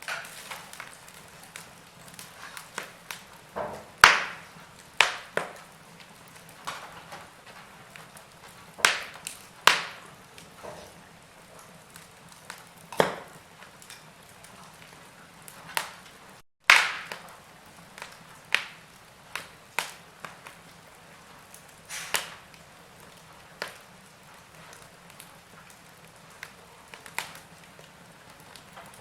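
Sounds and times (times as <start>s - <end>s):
fire hissing softly: 0.0s - 29.0s
wood fire pops and snaps: 0.0s - 29.0s.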